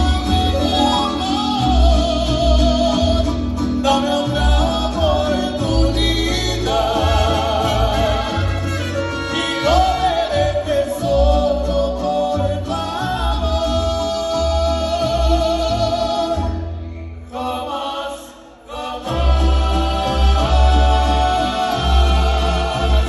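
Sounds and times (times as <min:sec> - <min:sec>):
man singing: 0:00.0 - 0:16.7, 0:17.3 - 0:23.0
mariachi band playing: 0:00.0 - 0:23.0.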